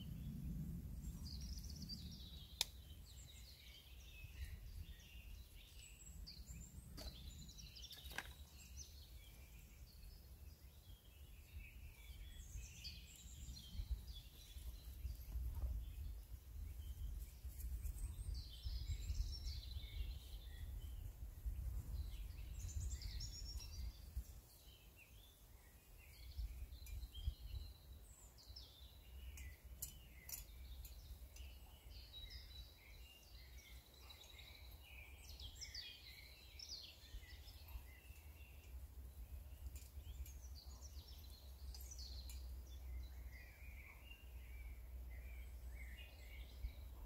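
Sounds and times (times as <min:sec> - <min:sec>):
small birds singing and chirping: 0:00.0 - 0:47.0.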